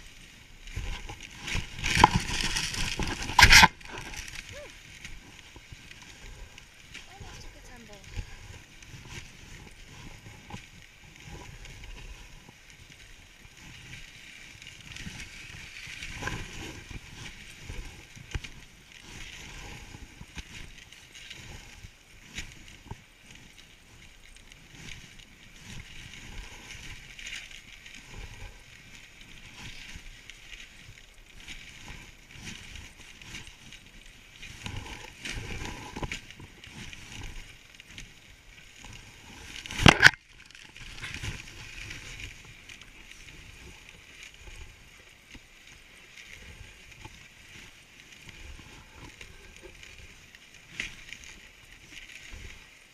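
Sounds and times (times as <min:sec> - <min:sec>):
sled runners hissing on snow: 0:00.0 - 0:39.7, 0:40.8 - 0:52.9
sled knocks and creaks: 0:00.0 - 0:52.9.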